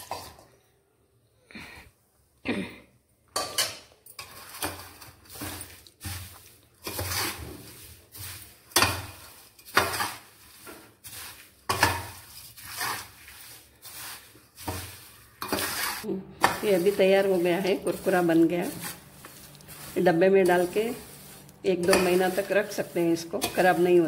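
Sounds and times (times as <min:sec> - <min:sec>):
spatula scraping metal pan: 0:03.4 - 0:24.0.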